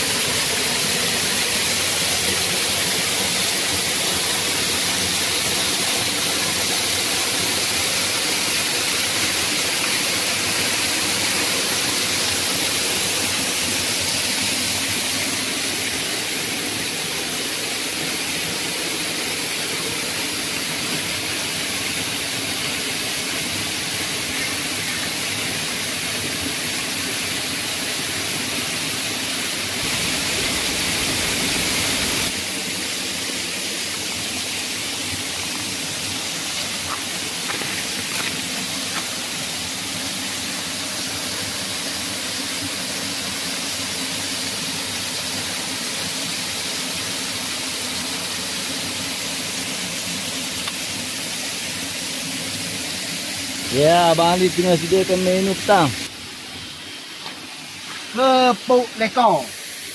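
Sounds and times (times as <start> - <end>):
waterfall cascading into a pool: 0.0 - 59.9.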